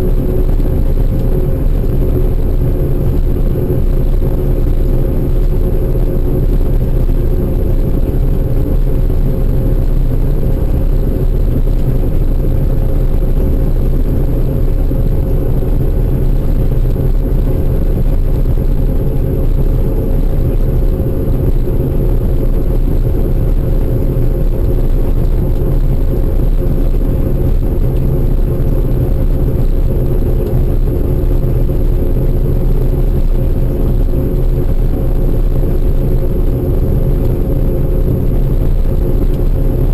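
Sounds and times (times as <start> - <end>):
harvest machinery engine drone: 0.0 - 39.9
mid-pitched machine whine: 0.0 - 39.9.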